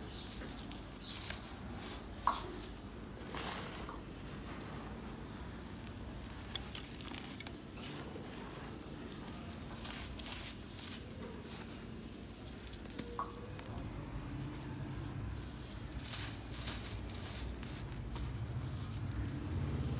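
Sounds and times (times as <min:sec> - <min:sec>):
grit and pebbles clicking: 0:00.0 - 0:19.6
low background noise: 0:00.0 - 0:19.9.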